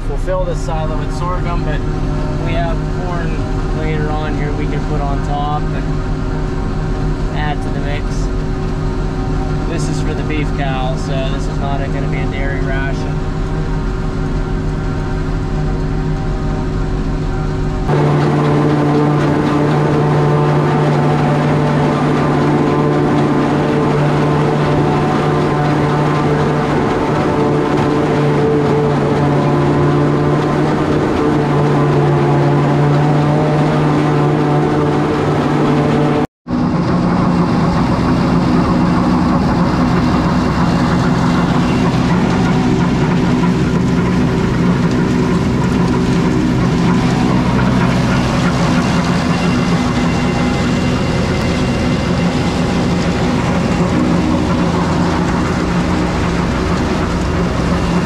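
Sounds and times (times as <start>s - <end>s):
silo blower running: 0.0s - 58.0s
tractor engine running: 0.0s - 58.0s.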